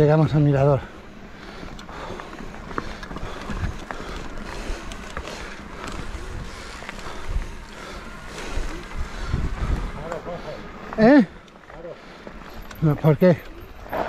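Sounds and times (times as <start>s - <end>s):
bike tyres rolling on dirt: 0.0s - 14.0s
bike rattling clicks and knocks: 1.4s - 14.0s.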